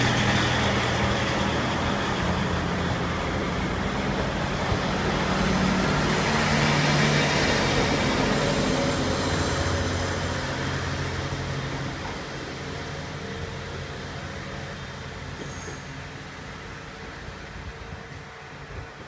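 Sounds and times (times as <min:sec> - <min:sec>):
diesel engine hum: 0:00.0 - 0:15.4
train rumbling: 0:00.0 - 0:19.0.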